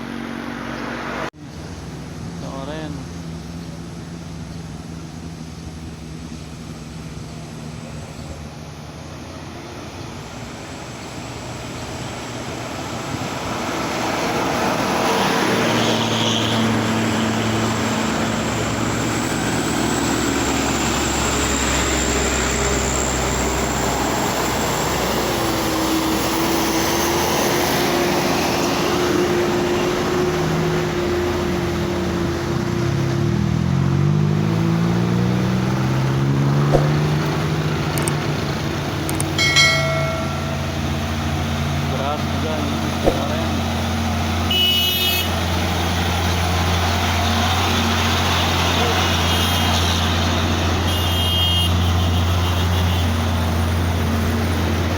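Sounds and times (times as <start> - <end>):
heavy truck engine labouring: 0.0 - 54.9.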